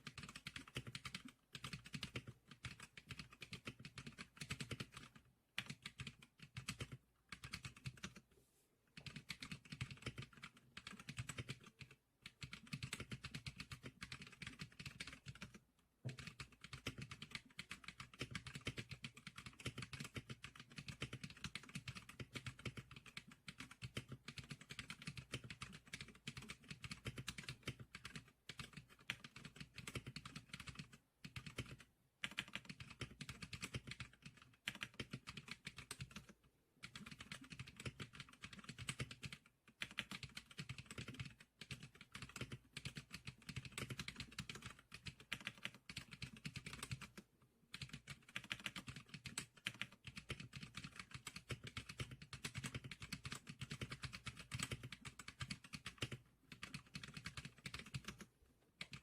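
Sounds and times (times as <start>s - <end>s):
keyboard typing: 0.0s - 8.2s, 8.9s - 59.0s.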